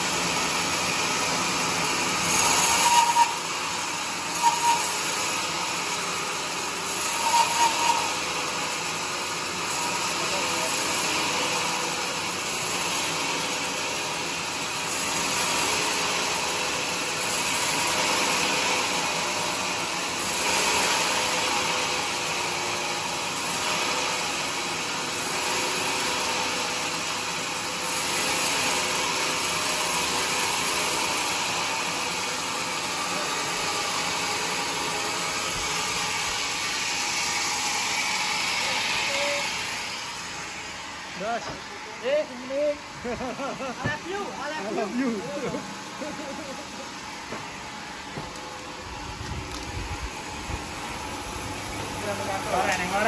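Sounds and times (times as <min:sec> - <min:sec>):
band saw cutting through log: 0:00.0 - 0:53.0.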